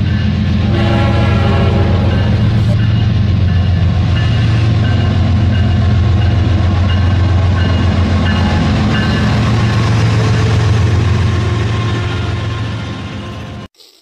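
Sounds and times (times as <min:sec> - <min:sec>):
train low rumble: 0:00.0 - 0:13.7.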